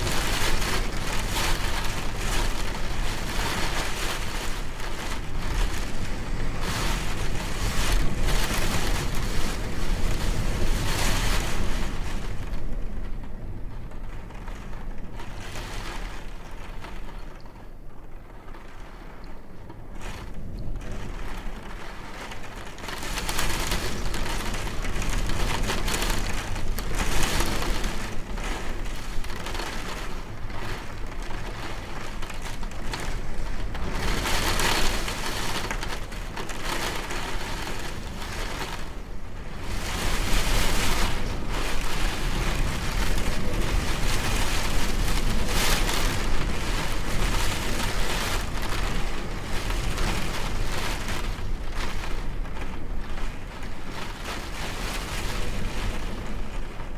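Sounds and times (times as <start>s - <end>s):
heavy rain: 0.0s - 17.4s, 20.0s - 56.9s.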